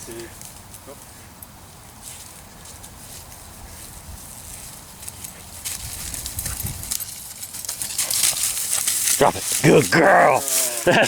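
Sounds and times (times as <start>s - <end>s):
footsteps crunching dry leaves: 2.0s - 11.0s.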